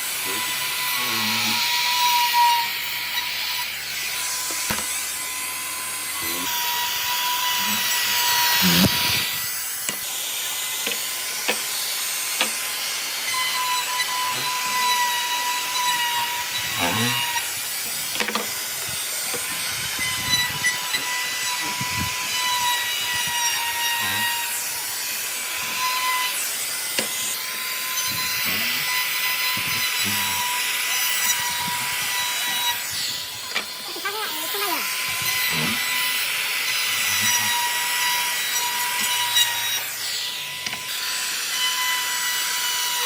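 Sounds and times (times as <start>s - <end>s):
power tool cutting wood: 0.0s - 43.0s.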